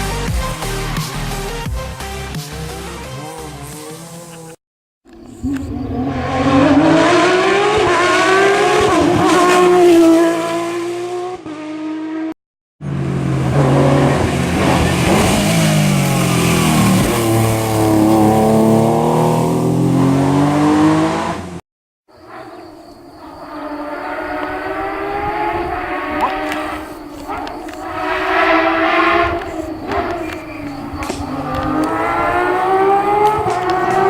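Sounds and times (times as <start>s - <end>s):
rally car engine revving: 2.4s - 4.6s, 5.2s - 21.6s, 23.3s - 34.0s.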